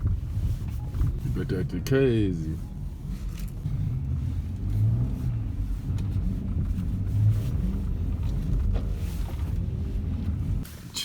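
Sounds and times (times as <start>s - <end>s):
car engine revving: 0.4s - 10.6s.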